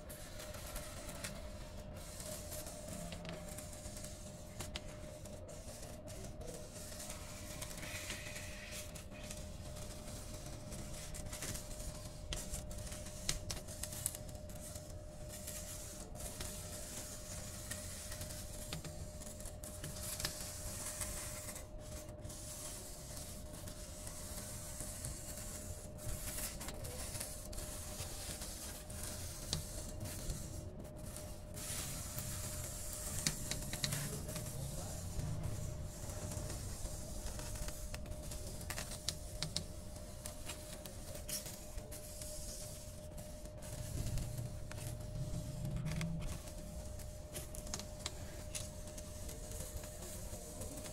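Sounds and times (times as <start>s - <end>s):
constant thin hum: 0.0s - 50.9s.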